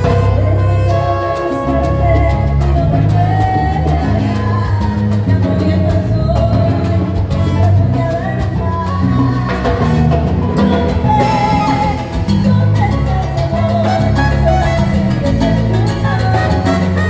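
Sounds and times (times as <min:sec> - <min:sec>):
salsa orchestra playing: 0:00.0 - 0:17.0.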